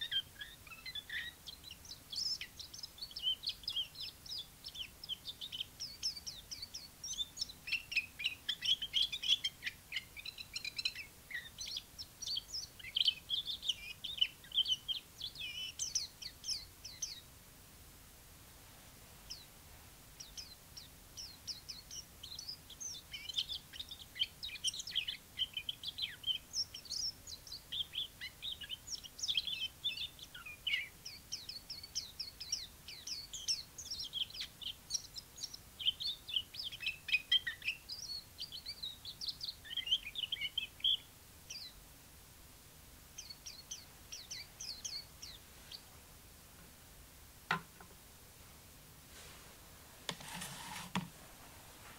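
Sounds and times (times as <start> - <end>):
bird twittering song: 0.0 - 17.3, 19.3 - 19.5, 20.2 - 41.8, 43.2 - 45.9.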